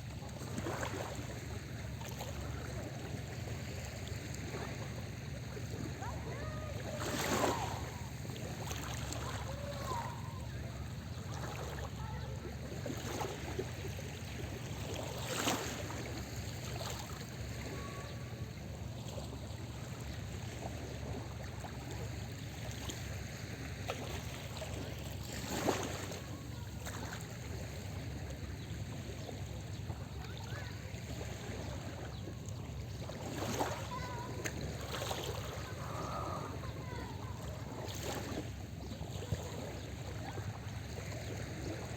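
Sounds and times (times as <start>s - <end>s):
small waves lapping on beach: 0.0s - 41.9s
waves breaking with splashes: 0.0s - 41.9s.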